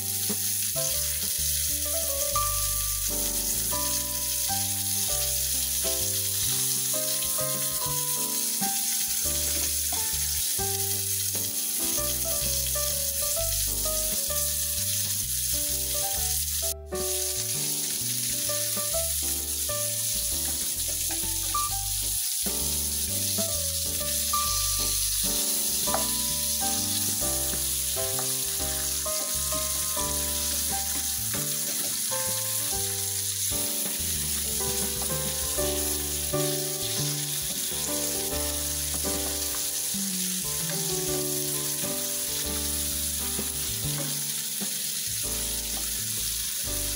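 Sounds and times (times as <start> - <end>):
fish sizzling in hot oil: 0.0 - 46.9.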